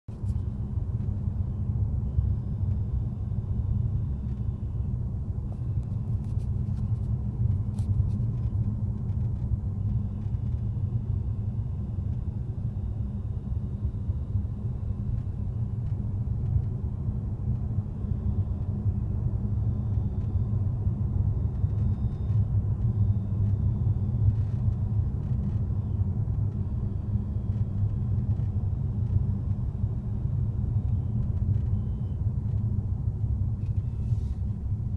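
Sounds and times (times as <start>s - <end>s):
car low rumble: 0.1s - 34.9s
faint high-pitched whine: 0.1s - 34.9s.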